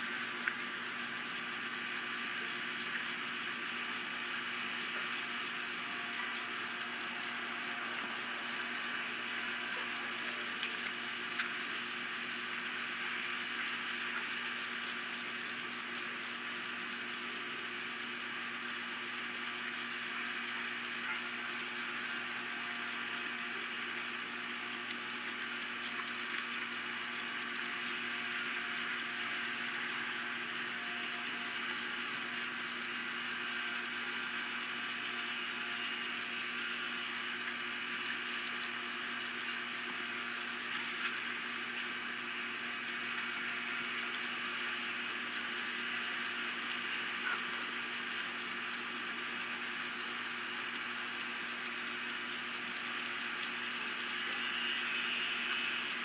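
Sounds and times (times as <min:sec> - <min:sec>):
faint hum tones: 0:00.0 - 0:56.0.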